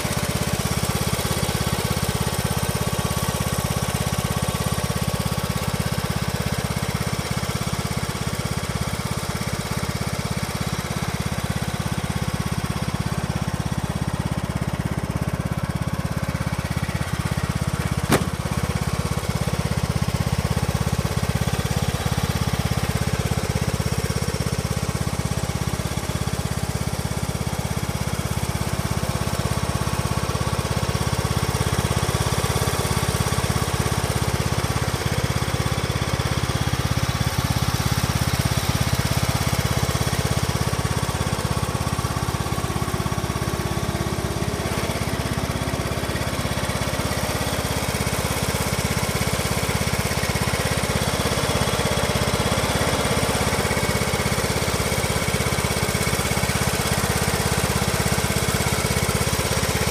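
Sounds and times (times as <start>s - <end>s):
lawn mower engine idling: 0.0s - 59.9s.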